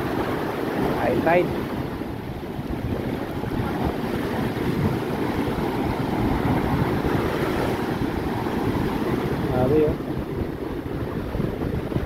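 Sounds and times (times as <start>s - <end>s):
storm waves breaking on beach: 0.0s - 12.0s.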